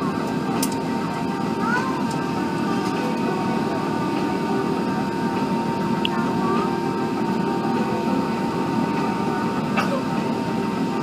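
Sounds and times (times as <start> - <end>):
airliner cabin airflow and engines: 0.0 - 11.0.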